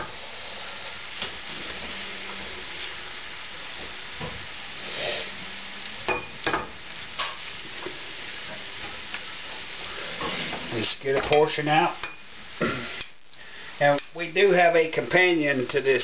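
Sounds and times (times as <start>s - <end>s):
food sizzling in a skillet: 0.0s - 16.0s.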